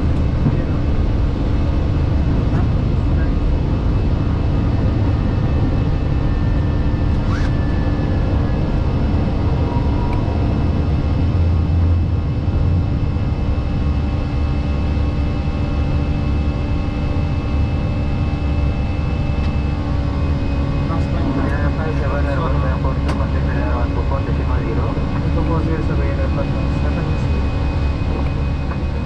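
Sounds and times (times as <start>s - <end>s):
airflow and engine rumble: 0.0s - 29.0s
constant hum: 0.0s - 29.0s.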